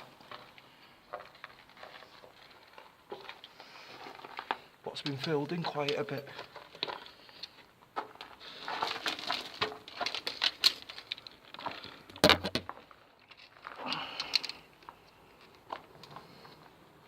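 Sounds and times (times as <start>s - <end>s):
footsteps crunching on rubble: 0.0s - 16.8s.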